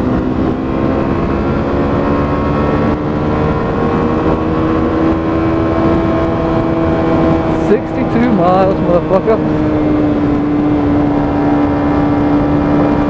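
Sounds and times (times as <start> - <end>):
dense low rumble: 0.0 - 13.0
motorcycle engine running: 0.0 - 13.0.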